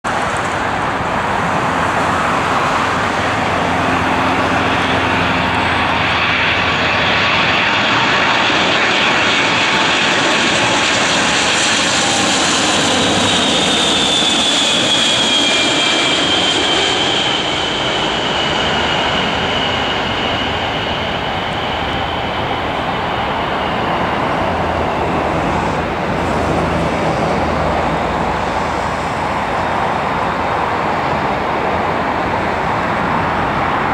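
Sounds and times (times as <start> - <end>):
jet airliner roaring overhead: 0.0 - 33.9
jet engine whine: 0.0 - 33.9.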